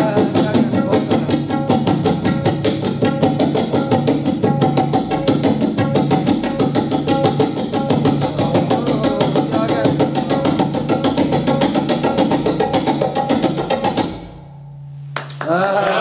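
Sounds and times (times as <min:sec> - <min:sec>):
tabla played fast: 0:00.0 - 0:14.8.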